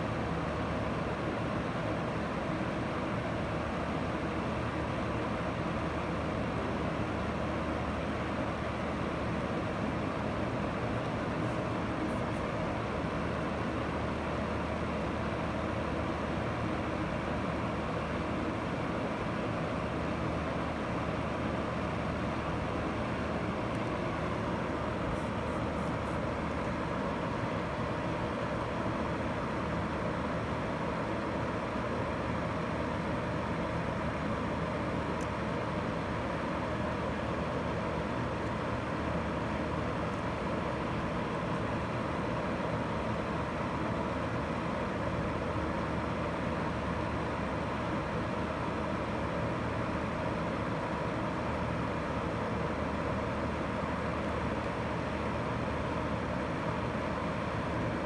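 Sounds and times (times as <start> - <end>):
steady background hum and hiss: 0.0 - 58.0.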